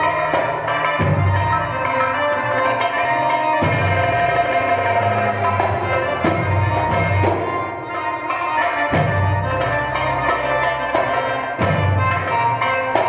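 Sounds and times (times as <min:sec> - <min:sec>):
hand drum beat: 0:00.0 - 0:02.2, 0:03.5 - 0:13.0
accordion: 0:00.0 - 0:13.0
violin: 0:00.0 - 0:13.0.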